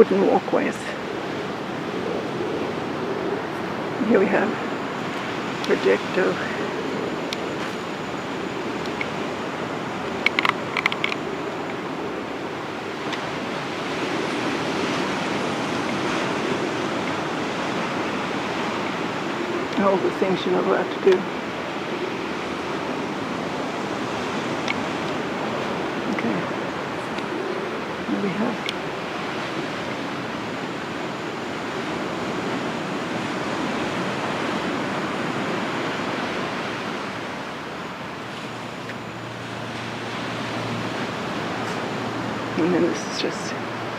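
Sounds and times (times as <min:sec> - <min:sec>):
surf washing onto beach: 0:00.0 - 0:43.9.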